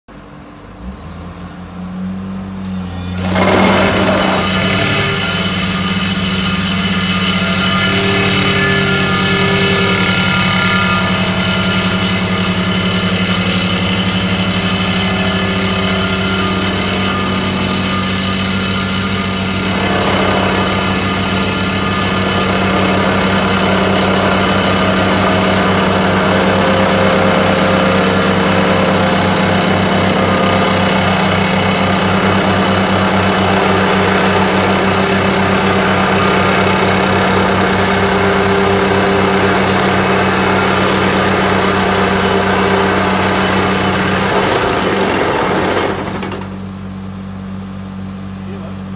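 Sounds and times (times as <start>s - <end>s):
vibratory hammer buzzing drone: 0.1s - 48.8s.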